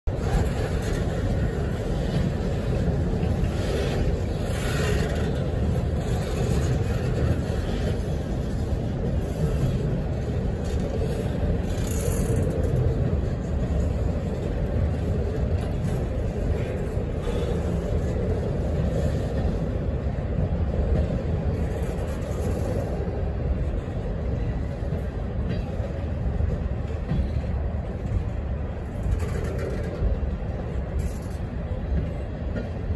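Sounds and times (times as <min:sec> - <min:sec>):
freight train cars rumbling: 0:00.0 - 0:32.9.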